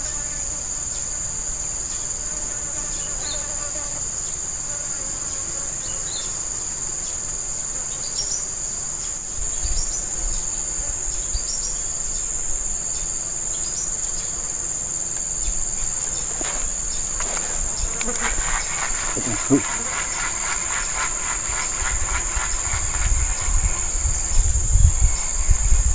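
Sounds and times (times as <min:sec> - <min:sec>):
shrill insect chorus: 0:00.0 - 0:25.9.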